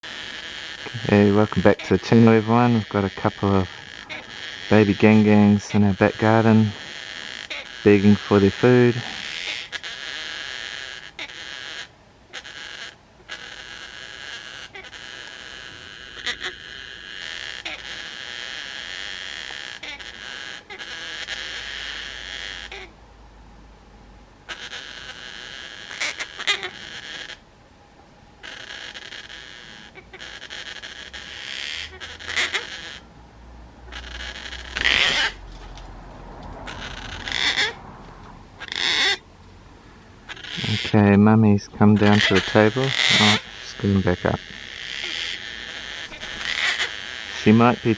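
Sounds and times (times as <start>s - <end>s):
cockatoo chicks raspy begging call: 0.0s - 23.0s, 24.4s - 27.4s, 28.4s - 33.1s, 33.7s - 39.4s, 40.1s - 47.9s
sharp cockatoo calls: 0.0s - 23.0s, 24.4s - 27.5s, 28.4s - 33.1s, 33.8s - 39.3s, 40.2s - 47.9s.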